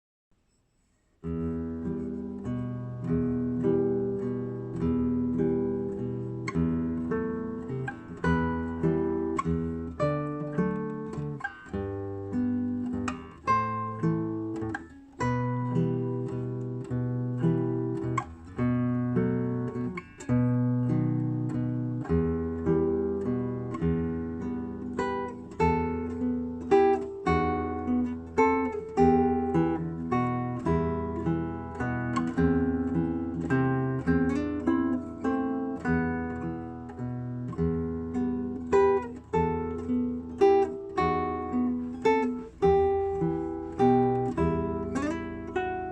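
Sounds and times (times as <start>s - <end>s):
solo acoustic guitar: 0.5s - 45.9s.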